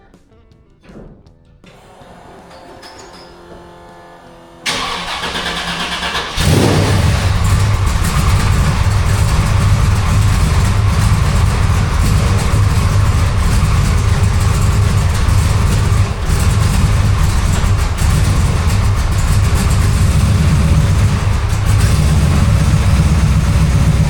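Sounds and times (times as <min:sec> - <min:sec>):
engine running loud: 0:01.8 - 0:24.0
starter motor cranking: 0:01.8 - 0:24.0.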